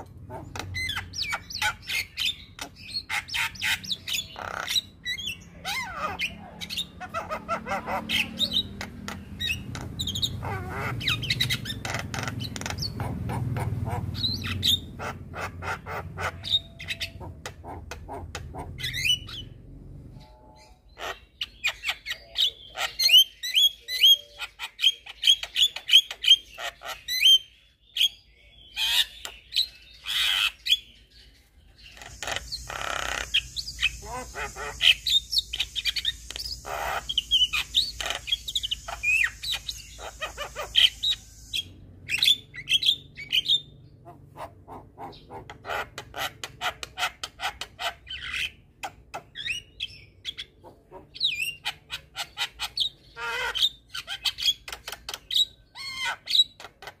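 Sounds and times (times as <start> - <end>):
bird chirps whistles and squawks: 0.0 - 31.1, 31.8 - 57.0.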